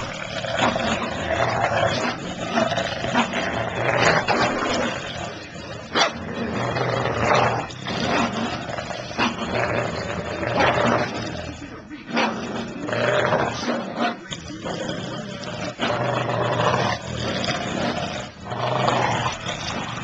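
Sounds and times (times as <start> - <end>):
dogs play growling: 0.0 - 20.0.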